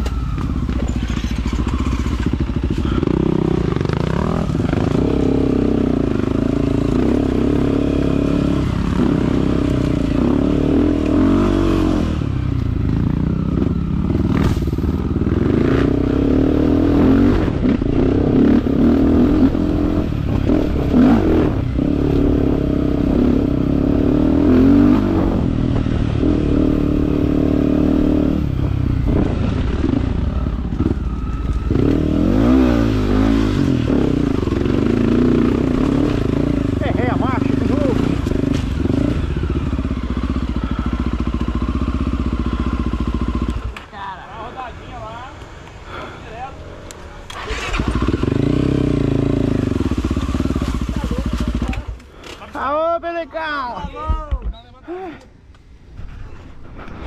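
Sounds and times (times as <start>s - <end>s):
dirt bike engine revving: 0.0s - 43.9s, 47.2s - 52.4s.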